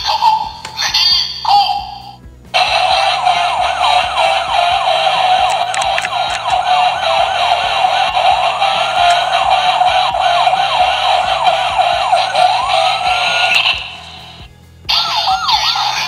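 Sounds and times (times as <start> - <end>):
tinny electronic toy siren: 2.6 - 16.0.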